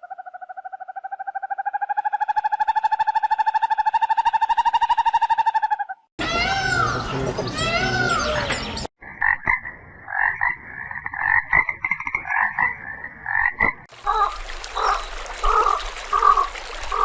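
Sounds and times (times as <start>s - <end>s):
frogs croaking: 0.0s - 5.3s, 6.2s - 17.0s.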